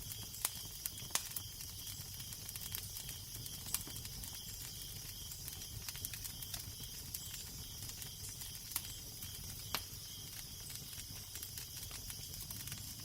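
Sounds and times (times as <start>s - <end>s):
fire pops: 0.0s - 13.0s
wood fire crackling: 0.0s - 13.0s.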